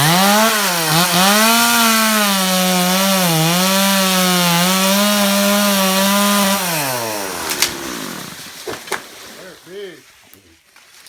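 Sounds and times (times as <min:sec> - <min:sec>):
chainsaw cutting wood: 0:00.0 - 0:09.4.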